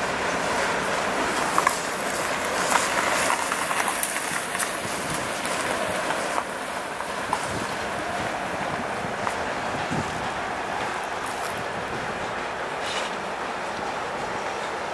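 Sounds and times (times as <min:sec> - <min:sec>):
sharp clicks of train wheels: 0:00.0 - 0:14.9
train wheels rumbling on rails: 0:00.0 - 0:14.9.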